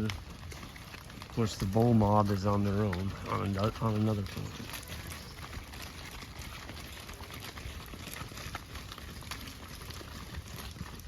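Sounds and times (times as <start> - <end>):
cattle hooves shuffling: 0.0 - 11.0.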